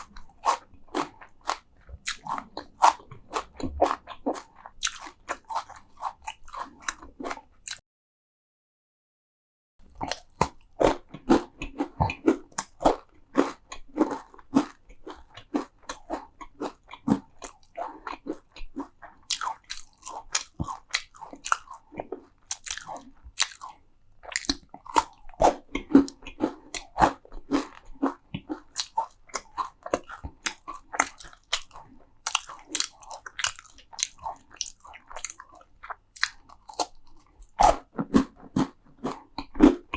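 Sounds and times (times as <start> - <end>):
crunchy chewing of crisp food: 0.0 - 7.8, 9.9 - 39.9.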